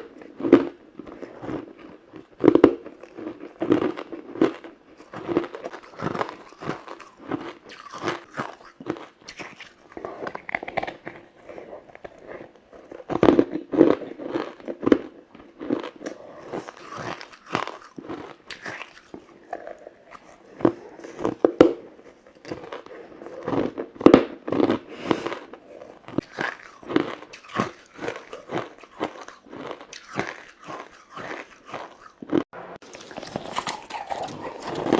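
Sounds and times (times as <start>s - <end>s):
ice being bitten and chewed: 0.0s - 34.9s.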